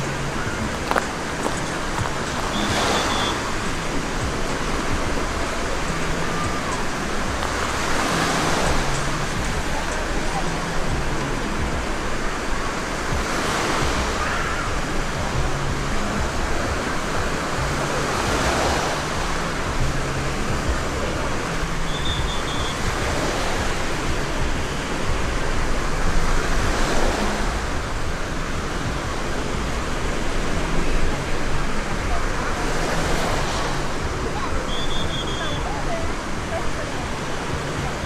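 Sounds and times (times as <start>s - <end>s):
waves washing up a sandy shore: 0.0s - 38.0s.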